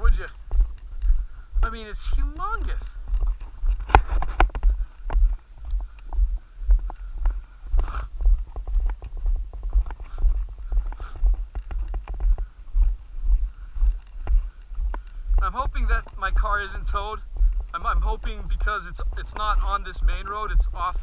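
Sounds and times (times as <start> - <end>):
footsteps crunching on gravel: 0.0 - 21.0
low rumble on microphone: 0.0 - 21.0.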